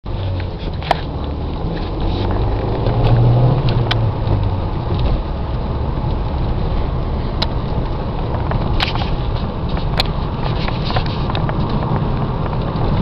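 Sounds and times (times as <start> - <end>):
car engine running: 0.1 - 13.0.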